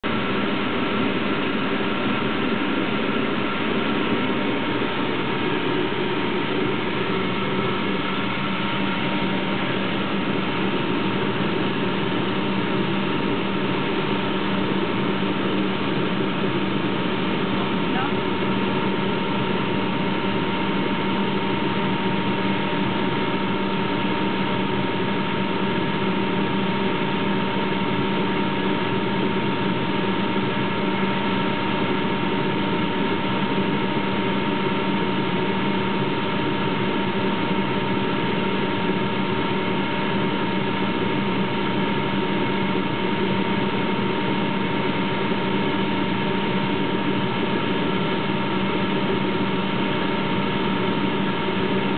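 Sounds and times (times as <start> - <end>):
air compressor running: 0.0 - 51.9.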